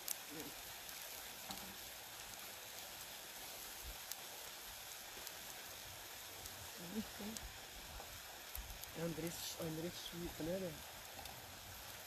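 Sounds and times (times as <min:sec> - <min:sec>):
oil popping: 0:00.0 - 0:12.0
onion and garlic sizzling: 0:00.0 - 0:12.0.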